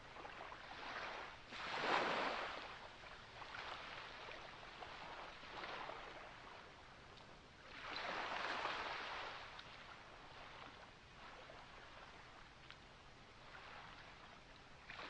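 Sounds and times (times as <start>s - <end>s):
small waves hissing on beach: 0.1s - 12.6s, 13.2s - 15.0s.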